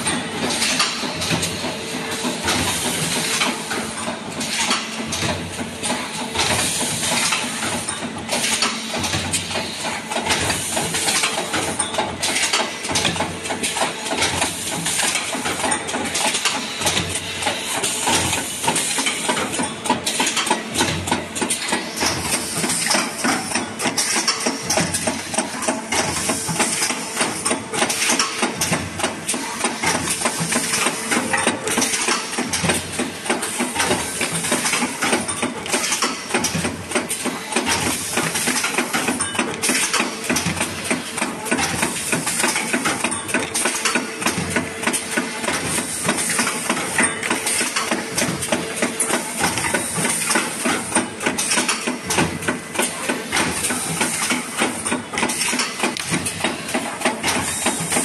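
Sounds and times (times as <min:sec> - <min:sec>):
rapid clatter of machine knocks: 0:00.0 - 0:58.0.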